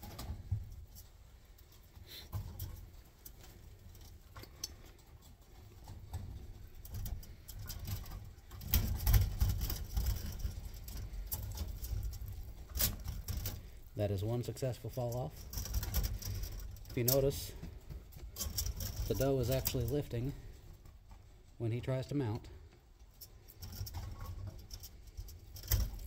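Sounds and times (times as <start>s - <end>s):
cage wire rattling: 0.0s - 14.0s, 14.9s - 21.5s, 22.5s - 26.0s
rabbit feet thumping on wire: 0.0s - 14.0s, 14.9s - 21.6s, 22.5s - 26.0s.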